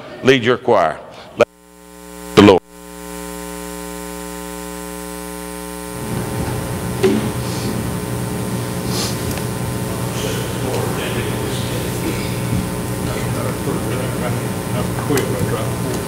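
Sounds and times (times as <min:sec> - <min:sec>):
electrical mains hum: 0:01.2 - 0:16.0
room noise: 0:01.2 - 0:16.0.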